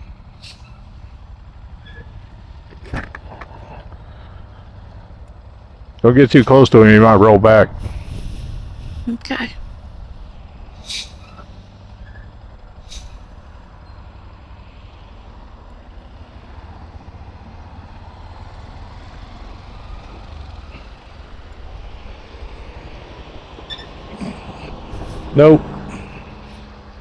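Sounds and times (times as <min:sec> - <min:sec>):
engines idling low rumble: 0:00.0 - 0:27.0.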